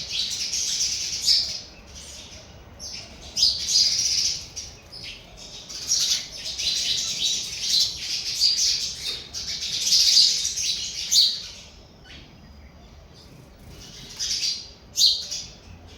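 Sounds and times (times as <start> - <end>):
sparrows chirping: 0.0 - 15.9.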